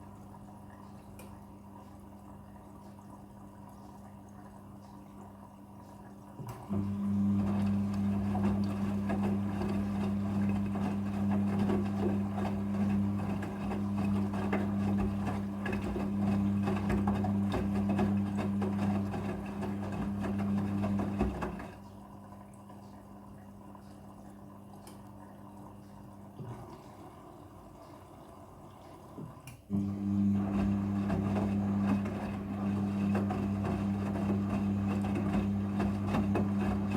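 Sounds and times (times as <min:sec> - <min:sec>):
drain pump humming: 0:00.0 - 0:36.9
water gurgling and splashing: 0:00.0 - 0:36.9.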